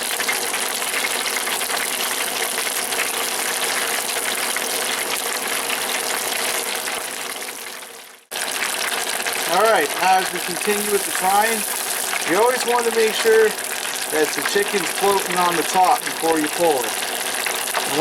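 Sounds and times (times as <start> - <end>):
hot oil sizzling and crackling: 0.0 - 18.0.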